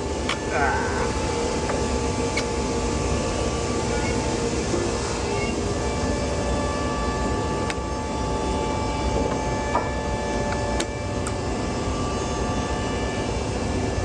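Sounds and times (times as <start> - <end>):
machine running steadily: 0.0 - 14.0.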